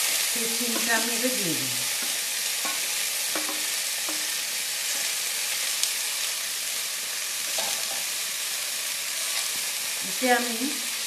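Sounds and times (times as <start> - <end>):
beans sizzling in hot oil: 0.0 - 11.0.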